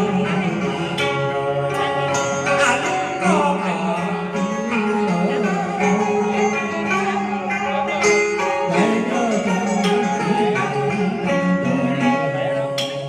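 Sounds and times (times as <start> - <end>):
plucked strings with bending notes: 0.0 - 13.0.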